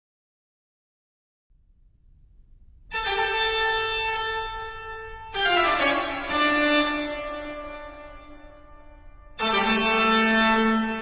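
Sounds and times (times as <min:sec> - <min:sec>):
faint low hum: 0:01.6 - 0:10.9.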